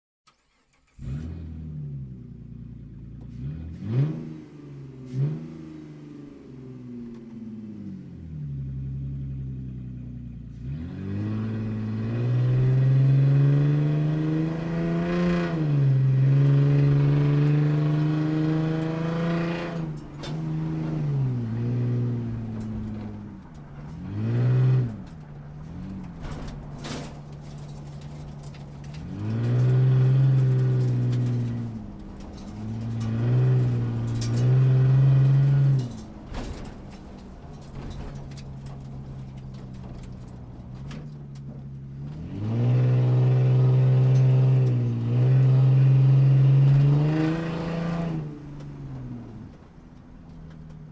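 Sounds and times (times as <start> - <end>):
sports car engine revving: 0.9 - 26.8, 27.5 - 36.5, 41.9 - 49.6.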